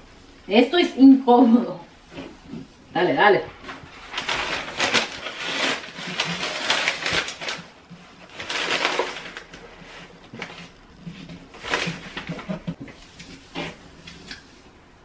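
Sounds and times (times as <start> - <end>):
contact paper backing rustling: 2.0 - 14.7.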